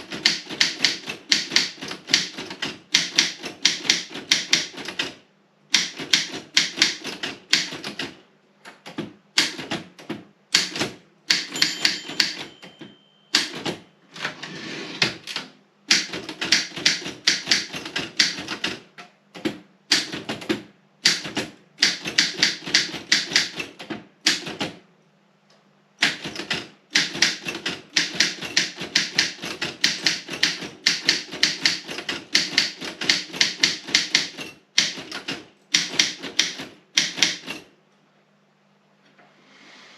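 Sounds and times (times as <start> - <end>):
typewriter key strikes: 0.0 - 5.1, 5.7 - 8.2, 8.8 - 13.8, 15.2 - 24.7, 26.0 - 37.7.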